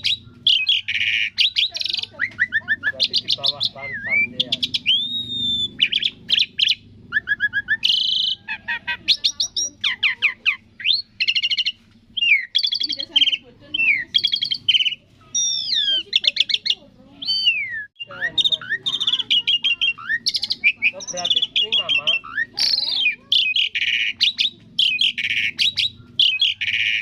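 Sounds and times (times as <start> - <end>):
starling singing chirps and trills: 0.0 - 27.0.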